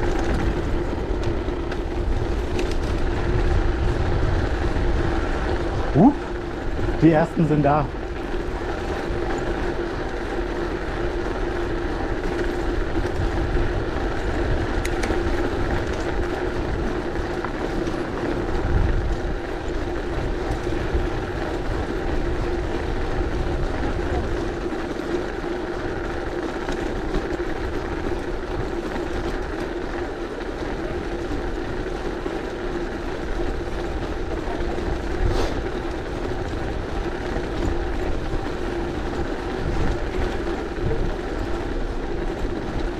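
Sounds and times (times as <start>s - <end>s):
bike rolling over cobblestones: 0.0s - 42.9s
wind rumble: 0.0s - 42.9s.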